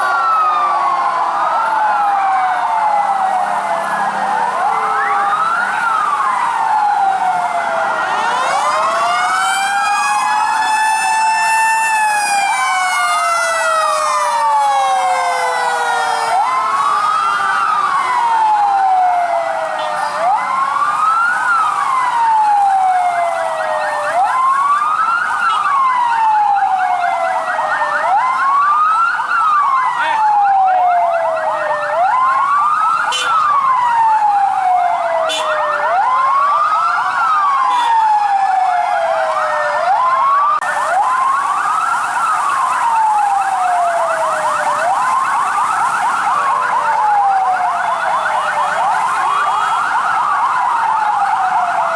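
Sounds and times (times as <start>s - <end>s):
fire truck siren wailing: 0.0s - 51.9s
warbling siren: 0.0s - 51.9s.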